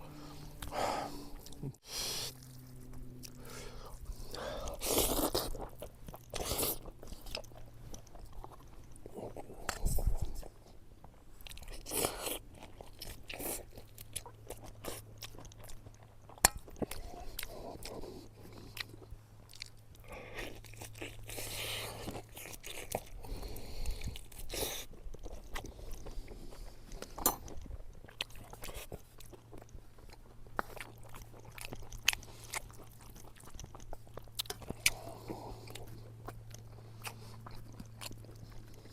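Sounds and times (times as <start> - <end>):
faint low hum: 0.0 - 38.9
person chewing food: 0.0 - 38.9.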